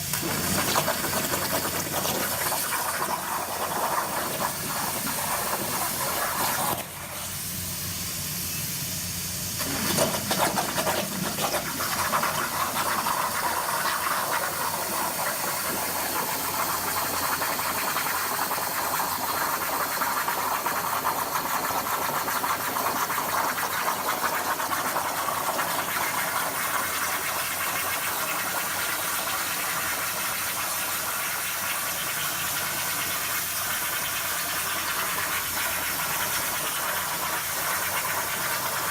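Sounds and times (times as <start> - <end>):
plasma cutter hissing: 0.0 - 38.9.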